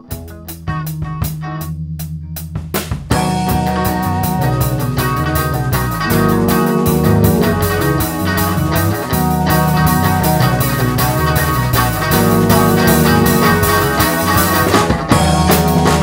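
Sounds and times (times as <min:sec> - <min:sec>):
noise-pop band playing: 0:00.0 - 0:16.0.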